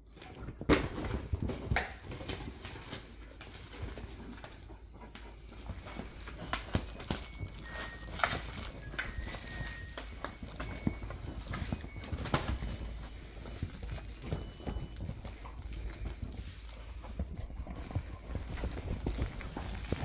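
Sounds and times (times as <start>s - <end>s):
dogs chewing plush toys: 0.0s - 20.0s.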